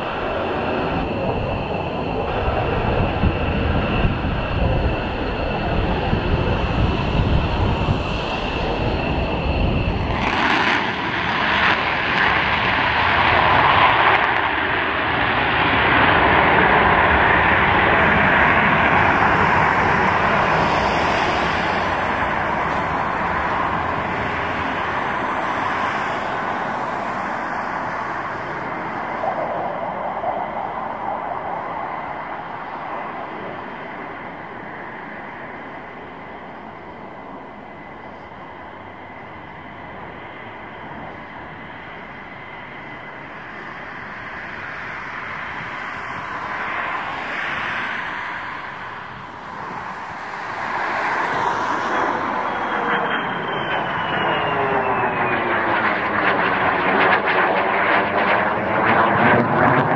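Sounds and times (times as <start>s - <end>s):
jet engine roaring: 0.0s - 59.9s.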